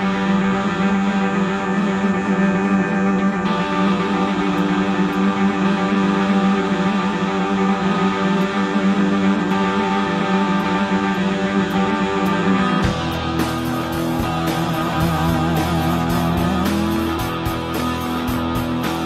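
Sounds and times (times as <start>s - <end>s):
electric guitar chords: 0.0s - 19.0s
instrumental punk rock band: 0.0s - 19.0s.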